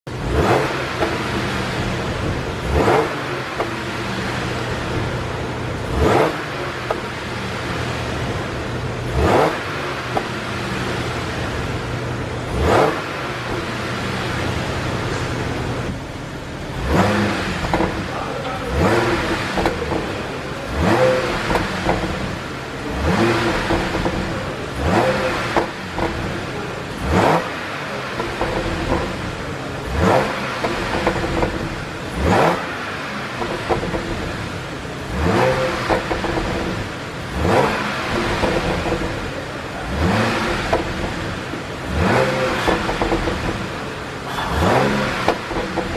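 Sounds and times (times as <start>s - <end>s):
car engine idling and revving: 0.0s - 45.9s
exhaust pops and crackles: 0.1s - 7.6s, 8.6s - 11.1s, 11.9s - 45.9s.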